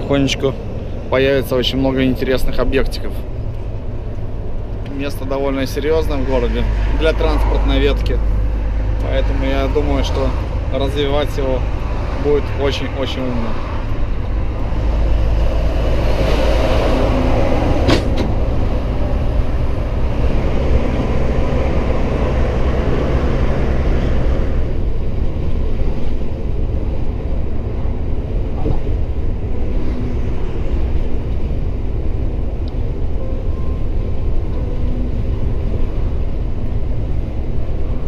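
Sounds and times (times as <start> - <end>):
road and wind noise: 0.0 - 38.0
truck diesel engine droning: 0.0 - 38.0.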